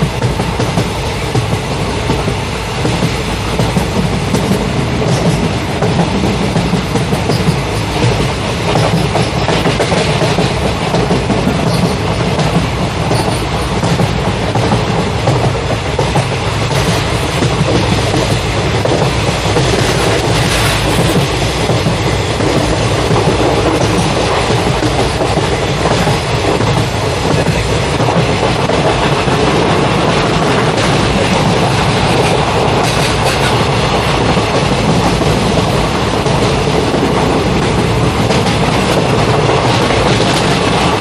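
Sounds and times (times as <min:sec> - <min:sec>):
train wheels rattling on rails: 0:00.0 - 0:41.0.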